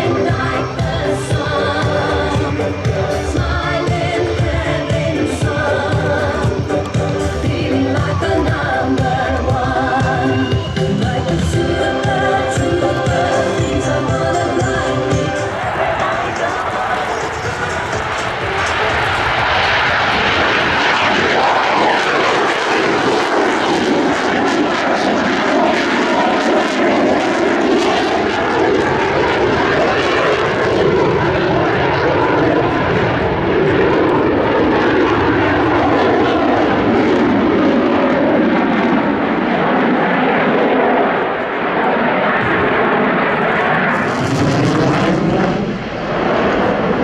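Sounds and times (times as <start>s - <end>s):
aircraft engine and propeller: 0.0s - 47.0s.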